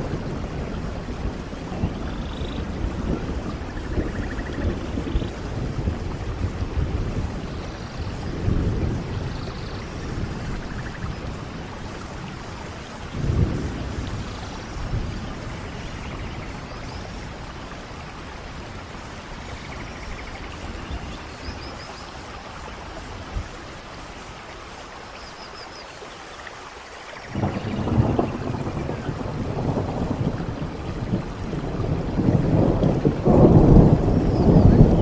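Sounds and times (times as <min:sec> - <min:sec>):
thunder rumbling: 0:00.0 - 0:24.1, 0:27.3 - 0:35.0
steady rain: 0:00.0 - 0:35.0.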